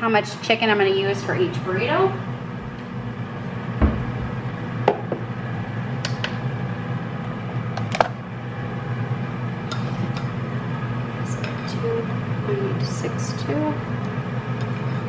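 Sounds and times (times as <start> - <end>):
air fryer humming: 0.0 - 15.0.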